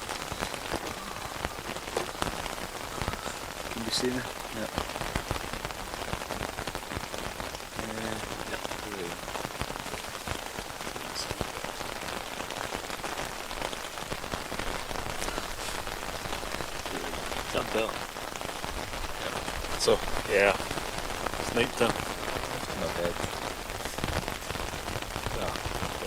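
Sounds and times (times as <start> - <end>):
rain on a tent: 0.0 - 26.0.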